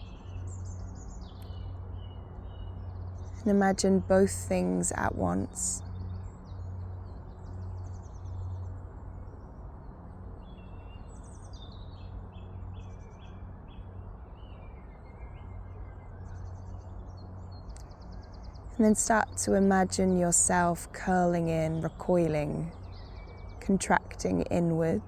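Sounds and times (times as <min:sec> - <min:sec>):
faint outdoor noise: 0:00.0 - 0:25.0
steady low hum: 0:00.0 - 0:25.0.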